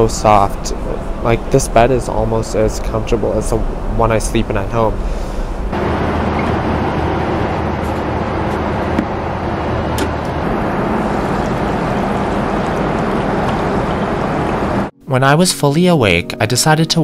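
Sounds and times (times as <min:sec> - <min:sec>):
airplane cabin rushing noise: 0:00.0 - 0:14.9
low hum: 0:00.0 - 0:14.9.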